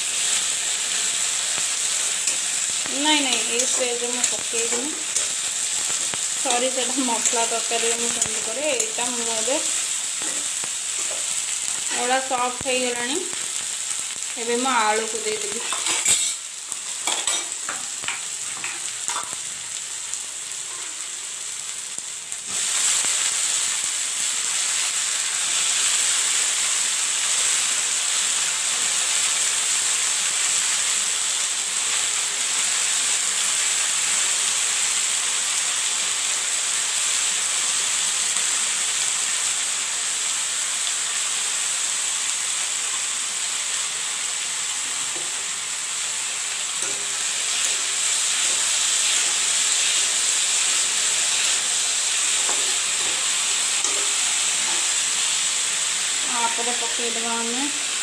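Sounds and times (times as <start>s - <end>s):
food sizzling in hot oil: 0.0s - 58.0s.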